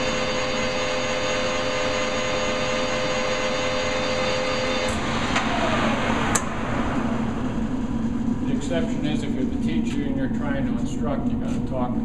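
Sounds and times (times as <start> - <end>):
metal lathe whine: 0.0 - 10.4.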